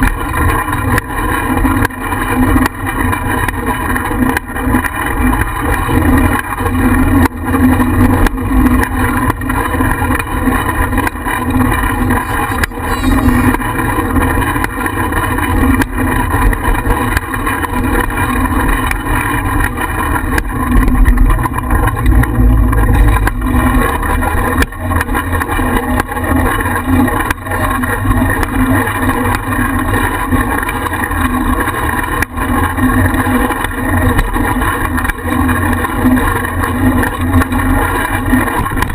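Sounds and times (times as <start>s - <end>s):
bicycle knocks and rattles: 0.0s - 38.9s
road rumble: 0.0s - 38.9s
steady hum: 0.0s - 38.9s.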